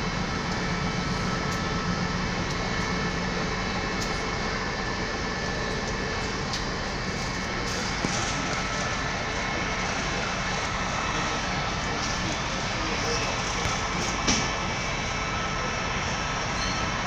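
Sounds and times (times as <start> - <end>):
locomotive engine idling: 0.0 - 17.0.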